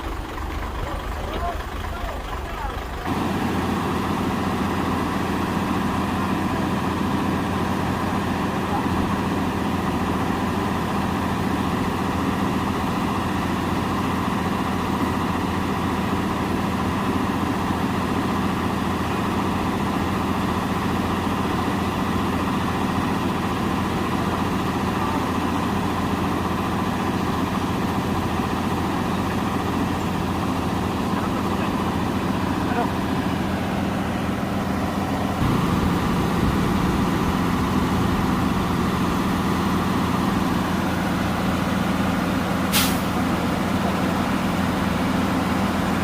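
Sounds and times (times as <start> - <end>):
truck diesel engine running: 0.0 - 46.0.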